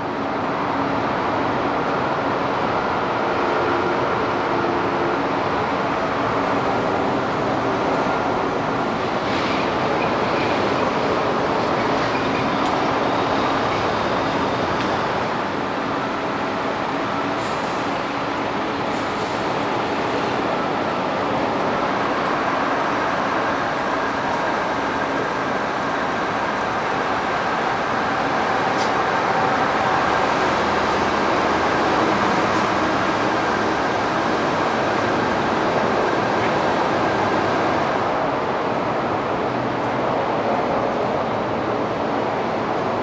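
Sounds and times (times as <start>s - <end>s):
continuous rushing hum: 0.0s - 43.0s.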